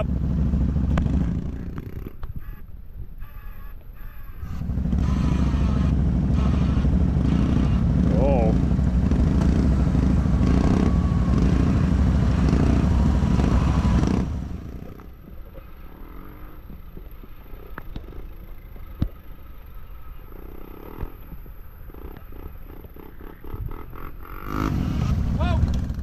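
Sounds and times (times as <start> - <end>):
off-road vehicle engine running hard: 0.0 - 2.6, 3.2 - 26.0.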